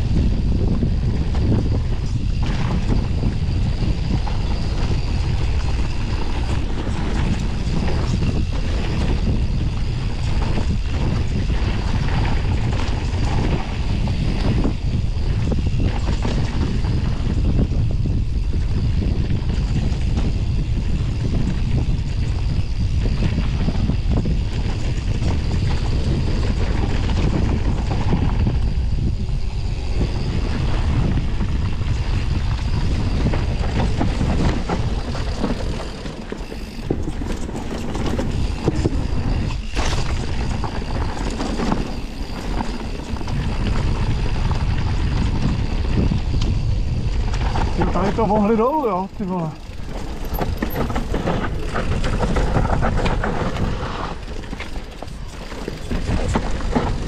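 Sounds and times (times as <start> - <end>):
bike rattling over rough ground: 0.0 - 57.0
wind buffeting microphone: 0.0 - 57.0.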